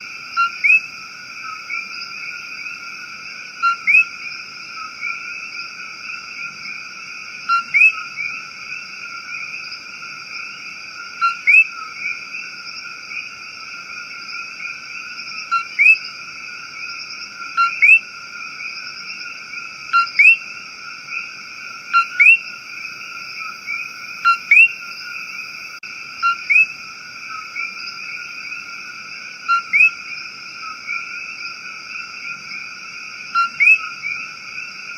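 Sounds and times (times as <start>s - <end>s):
chorus of frogs and insects: 0.0s - 34.9s.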